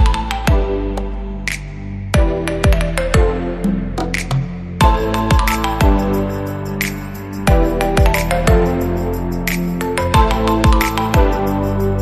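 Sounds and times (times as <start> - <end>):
synth music over slow beat: 0.0 - 12.0.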